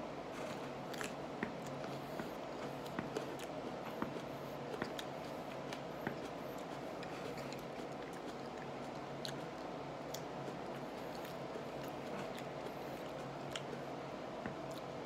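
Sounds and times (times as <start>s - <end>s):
person chewing: 0.8s - 13.8s.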